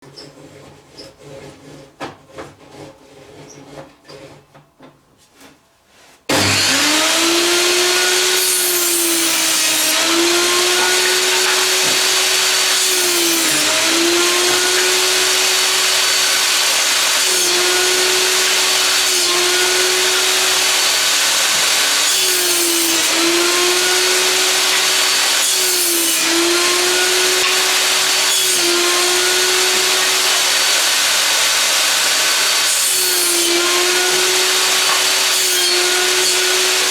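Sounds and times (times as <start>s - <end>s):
table saw cutting wood: 6.3s - 36.9s.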